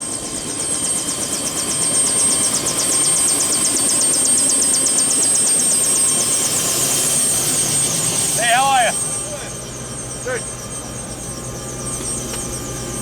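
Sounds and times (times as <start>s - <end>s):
helicopter turbine whine: 0.0s - 13.0s.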